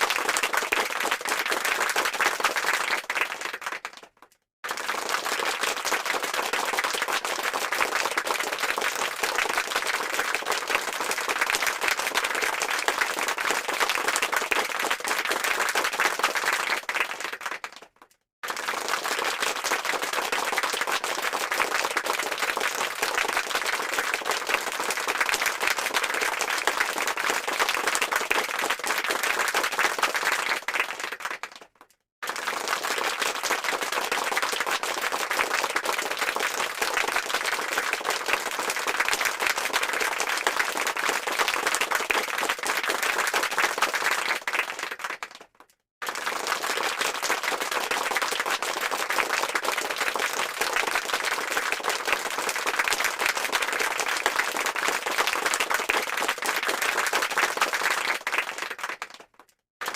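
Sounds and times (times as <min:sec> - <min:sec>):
crowd clapping: 0:00.0 - 0:59.9.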